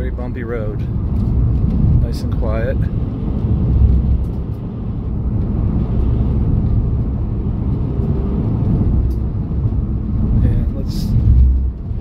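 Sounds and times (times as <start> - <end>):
van cabin road and engine rumble: 0.0 - 12.0.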